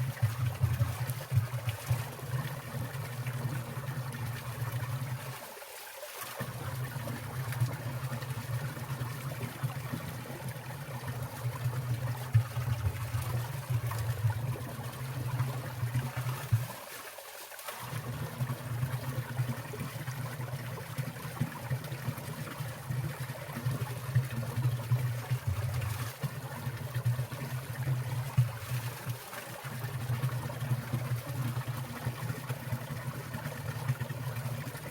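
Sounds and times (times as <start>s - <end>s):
stream trickling and splashing: 0.0s - 34.9s.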